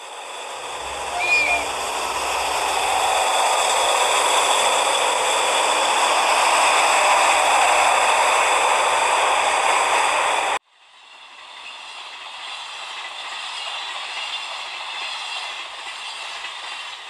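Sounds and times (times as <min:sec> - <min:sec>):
model train whirring: 0:00.0 - 0:17.0.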